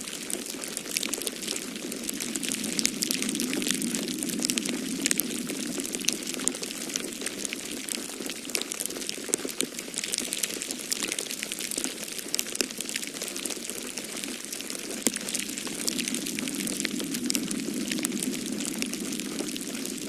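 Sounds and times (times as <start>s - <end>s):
rushing wind and fire: 0.0s - 10.5s, 12.8s - 20.0s
wood fire crackling: 0.0s - 20.0s.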